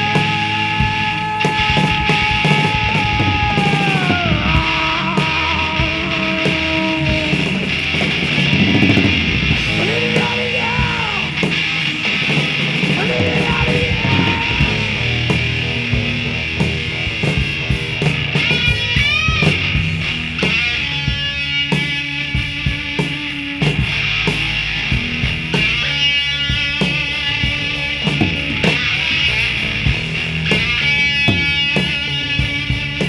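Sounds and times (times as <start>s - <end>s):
lead electric guitar bending notes: 0.0s - 33.0s
rock band playing: 0.0s - 33.0s.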